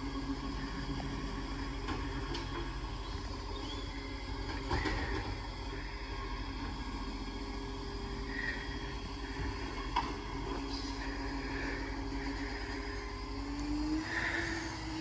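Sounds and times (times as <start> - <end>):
distant diesel engine humming: 0.0 - 15.0.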